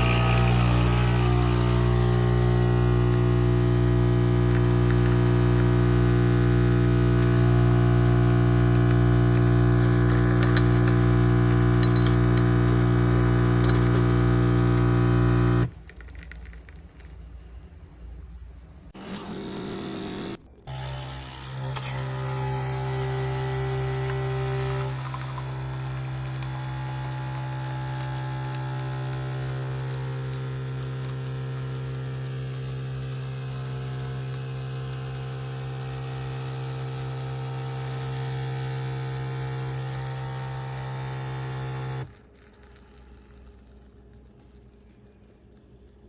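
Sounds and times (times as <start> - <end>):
coffee machine pump buzzing: 0.0 - 15.7, 19.0 - 43.4.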